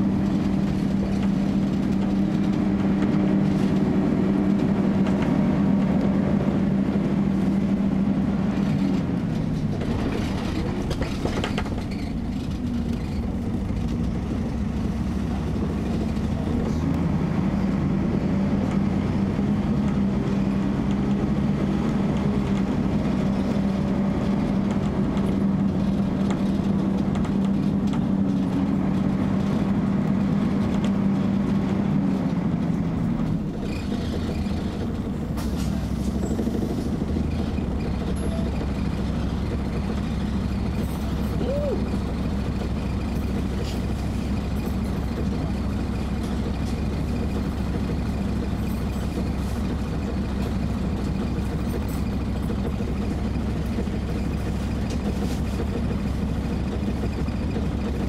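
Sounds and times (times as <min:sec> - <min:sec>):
bus engine and cooling fan drone: 0:00.0 - 0:58.0.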